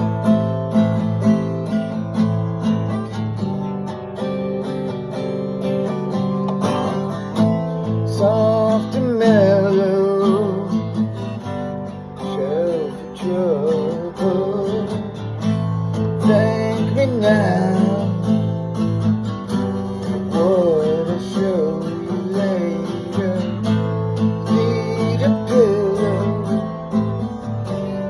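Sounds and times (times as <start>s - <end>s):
strummed acoustic guitar: 0.0s - 28.0s.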